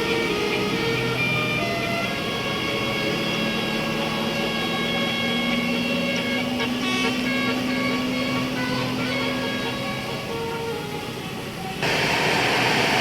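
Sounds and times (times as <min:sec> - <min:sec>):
bus musical horn playing notes: 0:00.0 - 0:12.3.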